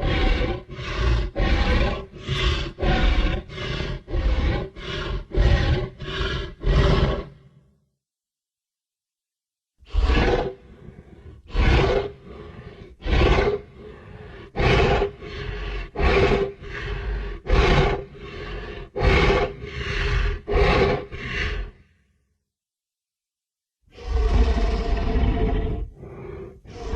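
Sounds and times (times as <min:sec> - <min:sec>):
giant boar calls: 0:00.0 - 0:07.6, 0:09.9 - 0:21.9, 0:23.9 - 0:26.9.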